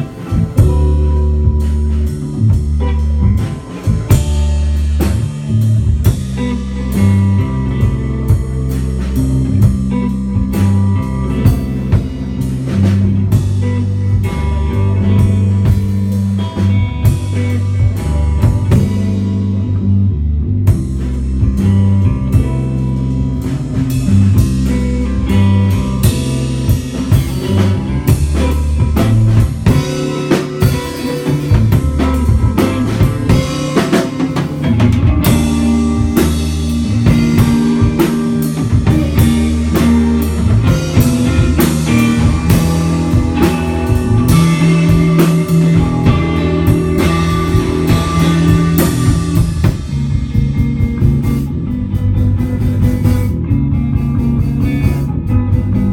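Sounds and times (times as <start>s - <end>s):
drum kit hits: 0.0s - 19.8s, 20.7s - 55.9s
bass guitar: 0.0s - 55.9s
electric guitar: 0.0s - 55.9s.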